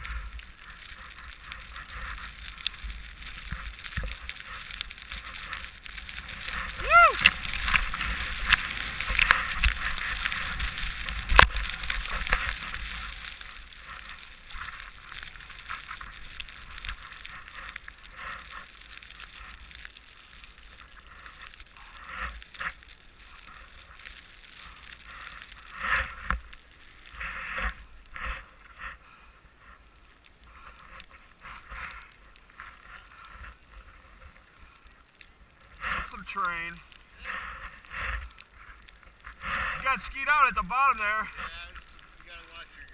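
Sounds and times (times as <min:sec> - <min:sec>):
snow hissing under skis: 0:00.0 - 0:29.2, 0:35.6 - 0:42.9.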